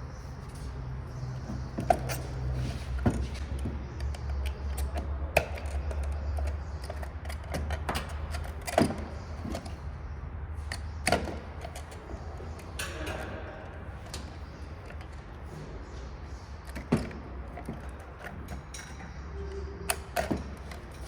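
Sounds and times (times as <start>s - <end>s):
tools clicking and knocking: 0.5s - 9.9s, 10.6s - 15.7s, 16.6s - 21.0s.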